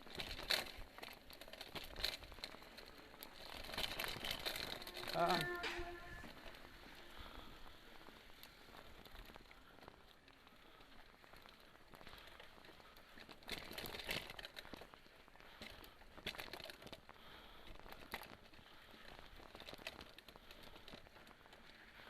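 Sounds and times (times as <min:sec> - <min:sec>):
mountain bike rattling over dirt: 0:00.0 - 0:22.0.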